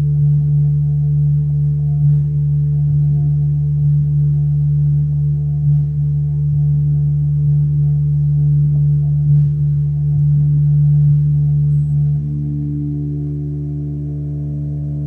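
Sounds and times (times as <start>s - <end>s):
higher held tones: 0.0s - 15.0s
low droning tone: 0.0s - 15.0s.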